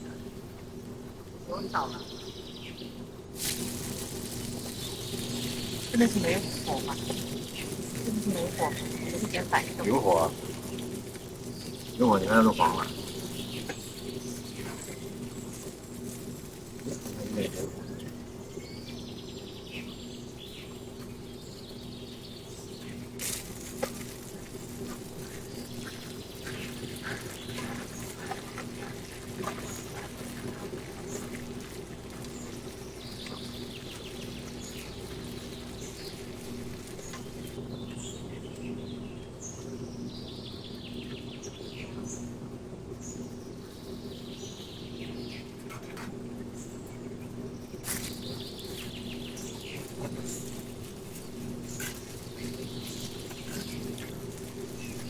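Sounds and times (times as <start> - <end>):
low pulsing hum: 0.0 - 55.0
birds singing descending trills: 1.3 - 45.6.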